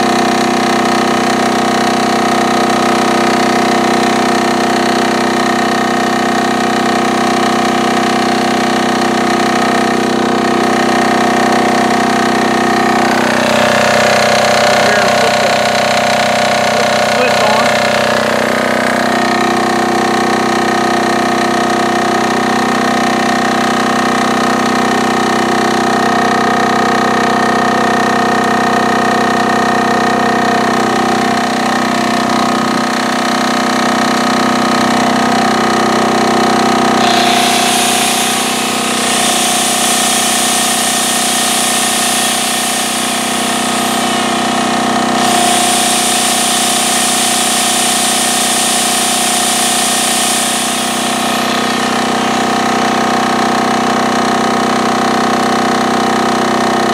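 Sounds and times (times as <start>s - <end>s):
angle grinder whine: 0.0s - 56.9s
diesel generator running: 0.0s - 56.9s.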